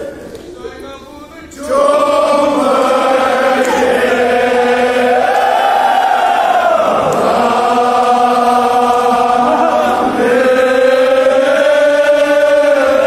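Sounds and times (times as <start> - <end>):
men chanting an elegy: 1.4 - 13.0.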